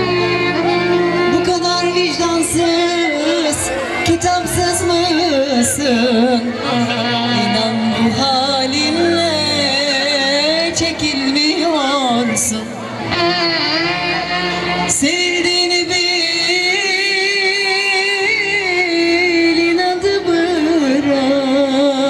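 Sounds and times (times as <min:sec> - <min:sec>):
keyboard: 0:00.0 - 0:22.0
violin: 0:00.0 - 0:22.0
woman singing into a microphone: 0:00.0 - 0:22.0.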